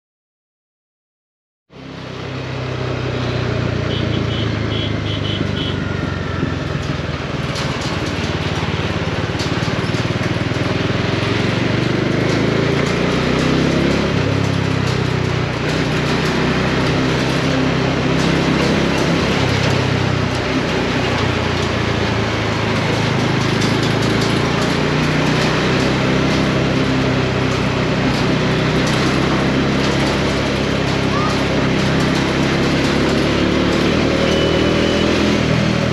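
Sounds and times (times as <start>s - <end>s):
wind and road noise: 1.7s - 35.9s
motorcycle engine revving: 1.8s - 35.9s.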